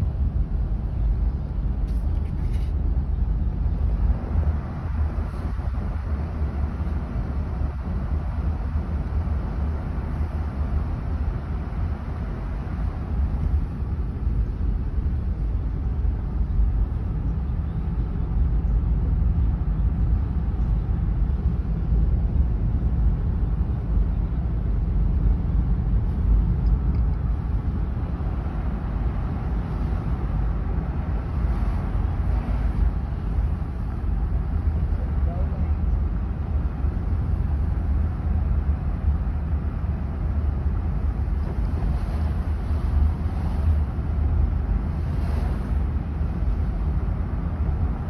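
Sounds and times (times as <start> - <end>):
car cabin tyre and engine rumble: 0.0 - 48.0.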